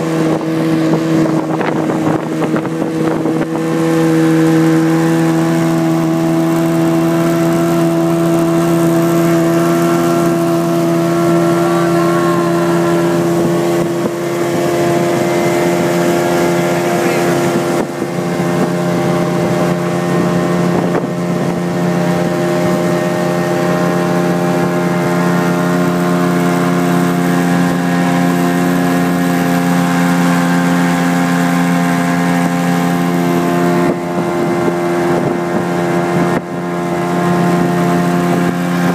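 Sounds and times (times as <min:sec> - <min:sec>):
outboard engine running: 0:00.0 - 0:38.9
rush of wind and water: 0:00.0 - 0:38.9.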